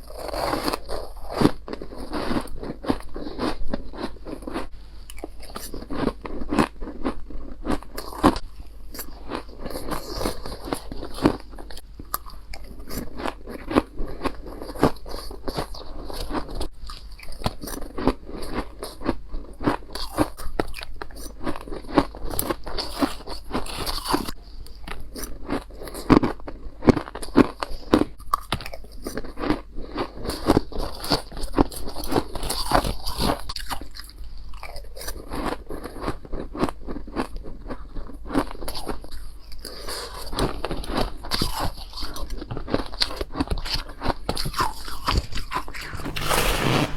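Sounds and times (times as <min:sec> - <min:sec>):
ice being chewed crunching: 0:00.0 - 0:46.0.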